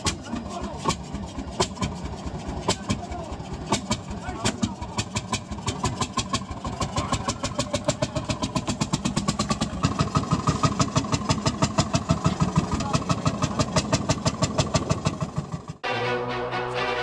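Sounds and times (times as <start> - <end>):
tractor engine running: 0.0 - 16.1.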